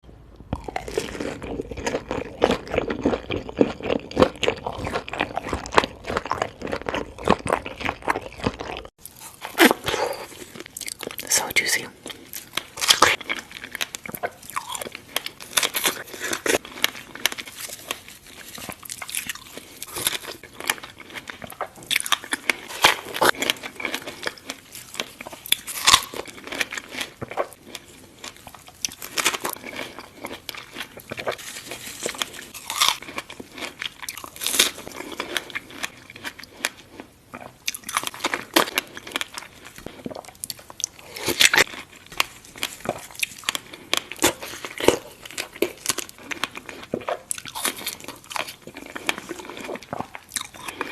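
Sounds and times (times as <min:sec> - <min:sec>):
person chewing crunchy food: 0:00.4 - 0:50.9.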